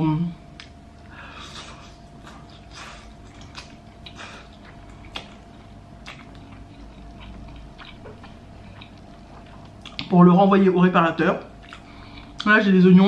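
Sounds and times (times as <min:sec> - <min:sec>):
soft chewing: 0:00.5 - 0:10.2, 0:11.4 - 0:12.6.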